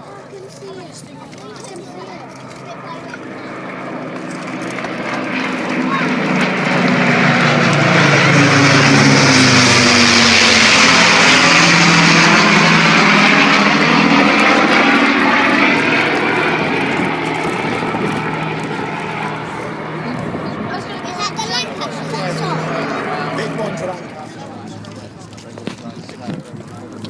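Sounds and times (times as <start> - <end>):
jet engine passing: 0.0 - 27.0.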